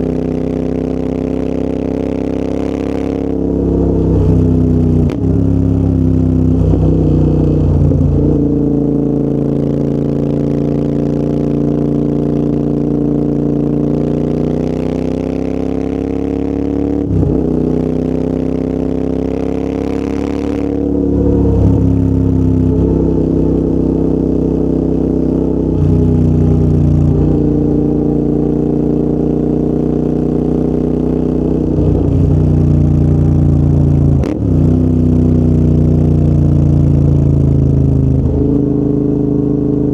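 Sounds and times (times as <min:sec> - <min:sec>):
motorcycle engine with gear shifts: 0:00.0 - 0:39.9.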